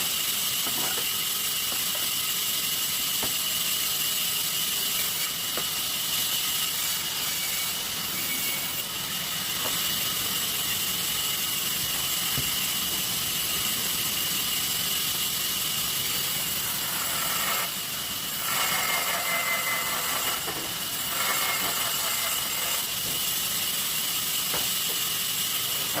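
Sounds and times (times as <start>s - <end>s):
sawmill saw whining: 0.0s - 26.0s.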